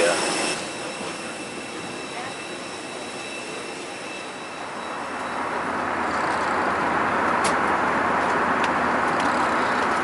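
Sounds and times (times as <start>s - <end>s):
jet engines rushing in cabin: 0.0s - 10.0s.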